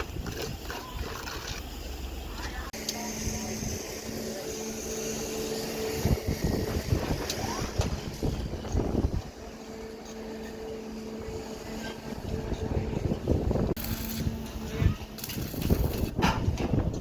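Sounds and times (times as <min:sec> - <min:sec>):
excavator engine droning: 0:00.0 - 0:16.2.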